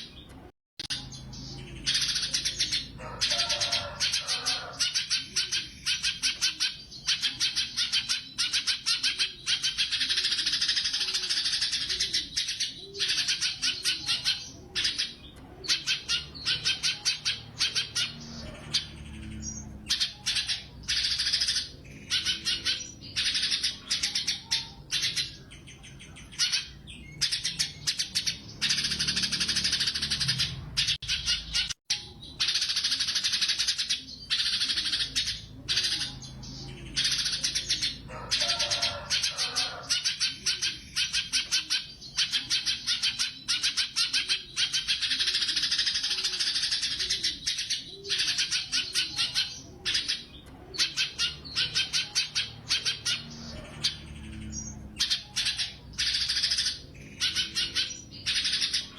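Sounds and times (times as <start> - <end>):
bird singing trilled phrases: 0.0 - 58.9.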